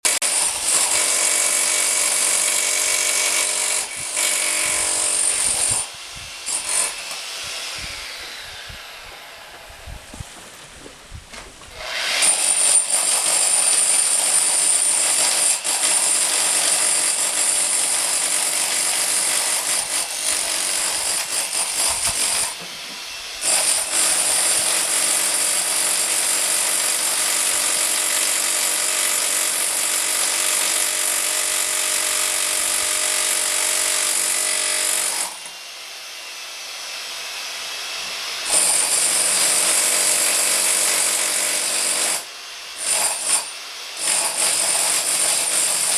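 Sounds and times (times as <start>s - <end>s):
power tool cutting into wall: 0.1s - 10.2s, 11.7s - 35.6s, 36.6s - 45.9s.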